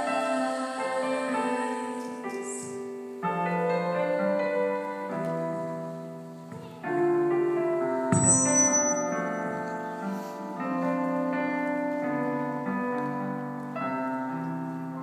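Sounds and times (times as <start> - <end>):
grand piano slow chords: 0.0 - 15.0.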